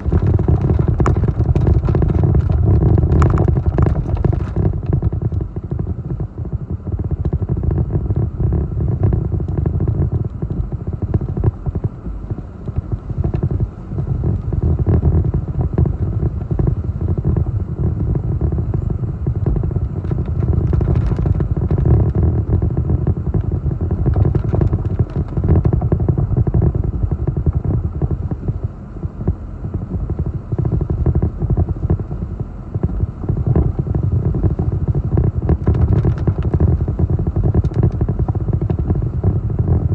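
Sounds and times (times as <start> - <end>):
strong wind gusting on microphone: 0.0 - 39.9.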